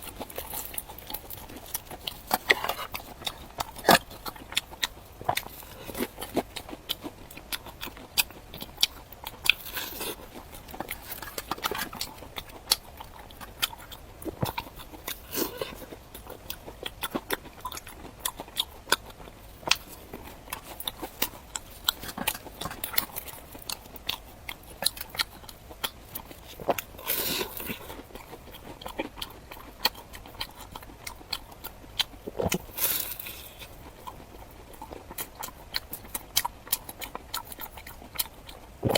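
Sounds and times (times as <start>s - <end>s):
close-miked chewing and crunching: 0.0s - 38.9s.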